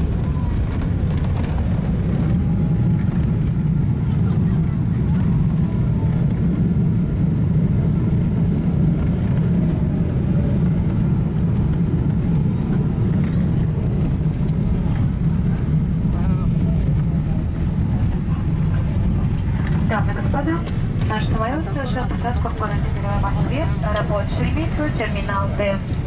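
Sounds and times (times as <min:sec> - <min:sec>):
airliner landing roll rumble: 0:00.0 - 0:26.0.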